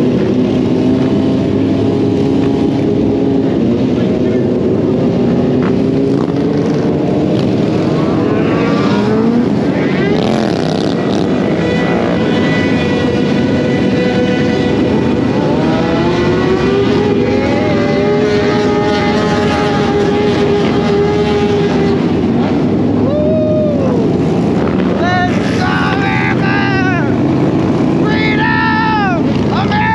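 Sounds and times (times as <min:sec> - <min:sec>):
motorcycle engines revving: 0:00.0 - 0:29.9.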